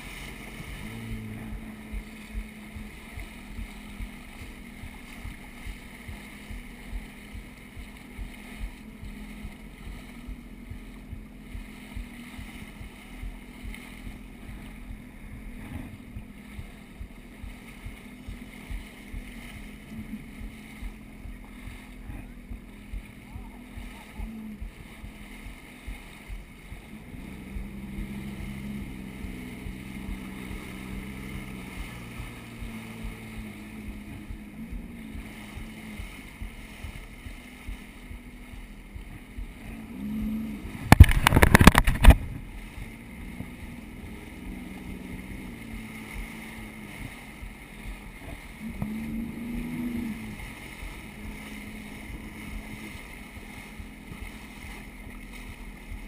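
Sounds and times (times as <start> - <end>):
jet ski engine running: 0.0 - 56.0
rushing water: 0.0 - 56.0.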